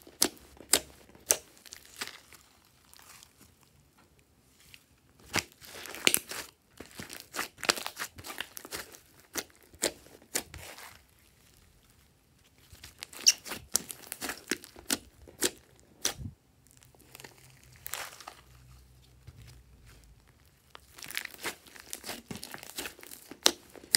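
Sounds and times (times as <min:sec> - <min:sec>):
slime crackling and popping: 0:00.0 - 0:03.7, 0:05.2 - 0:18.7, 0:20.0 - 0:23.9.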